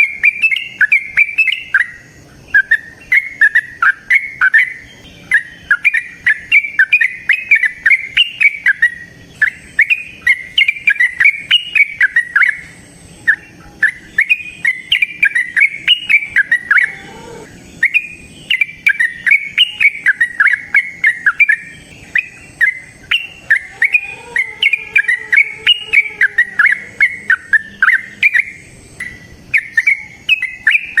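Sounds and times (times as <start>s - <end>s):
bird singing bubbling chirps: 0.0s - 31.0s.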